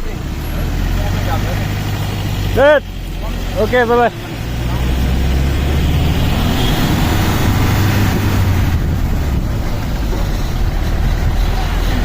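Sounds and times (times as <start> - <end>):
low engine rumble: 0.0 - 12.0
road noise: 0.0 - 12.0.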